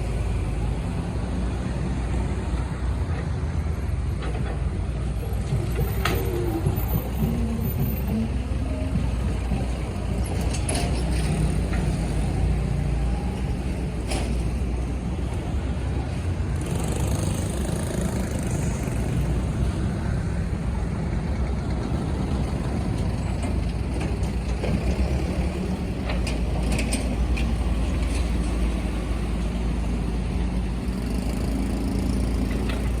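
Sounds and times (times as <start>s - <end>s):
diesel machinery engine running: 0.0s - 33.0s.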